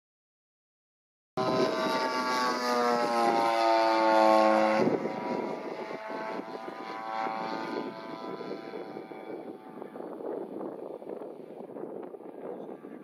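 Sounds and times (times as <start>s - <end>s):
model plane engine flying past: 1.4s - 13.0s.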